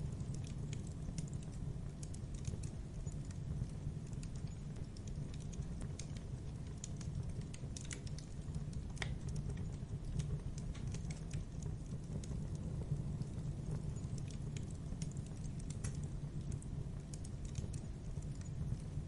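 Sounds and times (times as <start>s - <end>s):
campfire crackling and popping: 0.0s - 19.0s
low rumble of burning fire: 0.0s - 19.0s.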